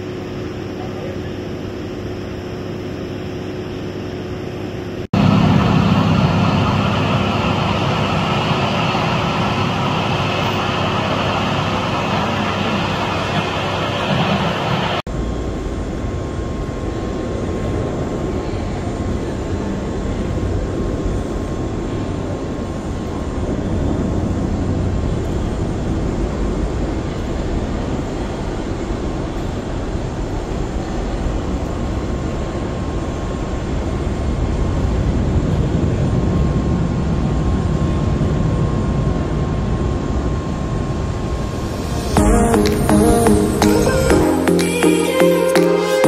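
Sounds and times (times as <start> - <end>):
faint high whine: 0.0 - 46.0
jet engines rushing rumble: 0.0 - 46.0.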